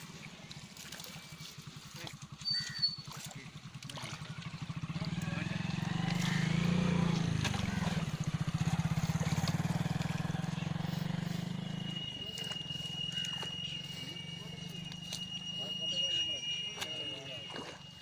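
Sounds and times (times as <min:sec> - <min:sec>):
boat engine low throb: 0:00.0 - 0:18.0.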